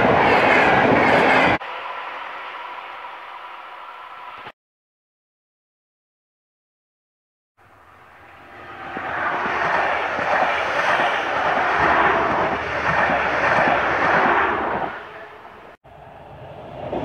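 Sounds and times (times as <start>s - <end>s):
train passing: 0.0s - 4.6s, 7.6s - 17.0s.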